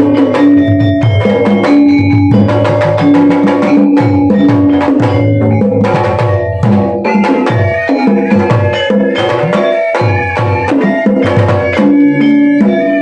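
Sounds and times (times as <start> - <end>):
gamelan ensemble playing: 0.0 - 13.0
hand drum strokes: 0.0 - 13.0
ringing pitched percussion: 0.0 - 13.0.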